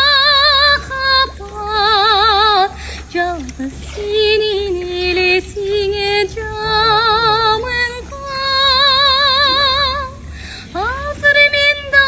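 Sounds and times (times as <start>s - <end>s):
woman singing with vibrato: 0.0s - 12.0s.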